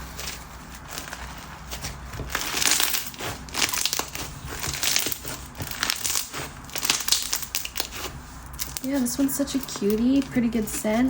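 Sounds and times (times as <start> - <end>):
crunchy slime squished by hand: 0.0 - 11.0.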